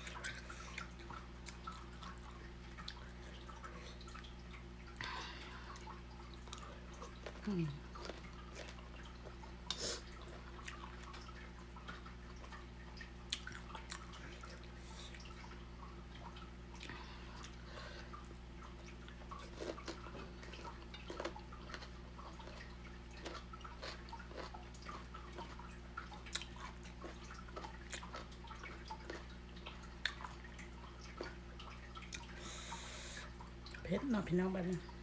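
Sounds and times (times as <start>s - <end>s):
wet chewing: 0.0s - 15.4s, 18.8s - 33.0s.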